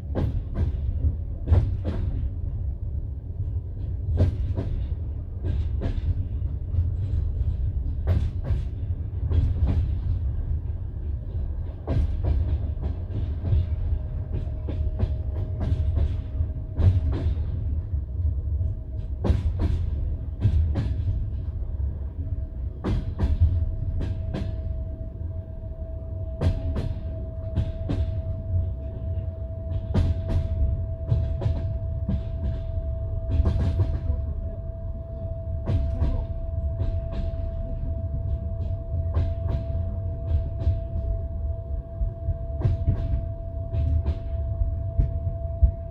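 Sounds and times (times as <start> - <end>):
train wheels clacking over rail joints: 0.0 - 2.7, 3.4 - 18.0, 18.6 - 24.9, 26.3 - 45.9.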